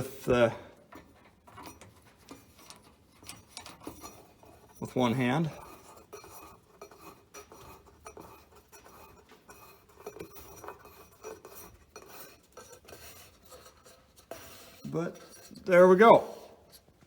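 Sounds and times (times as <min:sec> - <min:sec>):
small hard parts clicking and rattling: 0:00.8 - 0:15.8.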